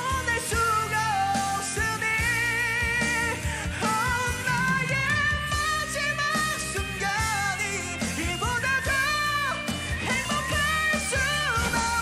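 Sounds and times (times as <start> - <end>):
rock band with drums: 0.0 - 12.0.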